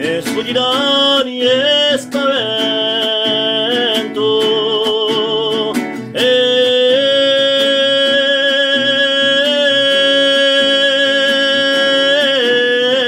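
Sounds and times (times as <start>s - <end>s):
strummed beat accompaniment: 0.0s - 13.0s.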